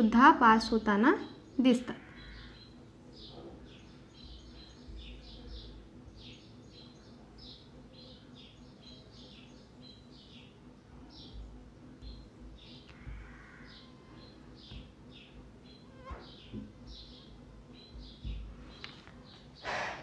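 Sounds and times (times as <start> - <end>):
faint bird chirping: 0.0 - 20.0
low steady hum: 0.0 - 20.0.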